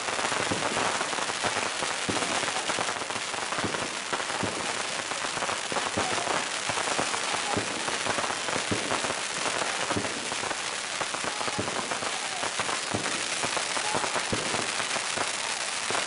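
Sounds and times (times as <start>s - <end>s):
firecrackers crackling: 0.0s - 16.0s.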